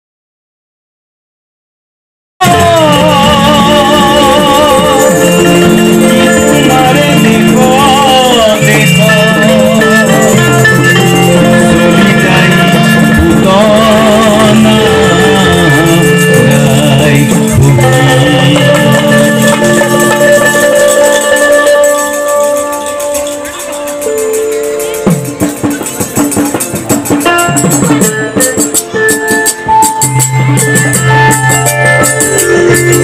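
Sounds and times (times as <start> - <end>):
held keyboard chords: 2.4 - 33.0
man singing with vibrato: 2.4 - 33.0
mandolin playing: 2.4 - 33.0.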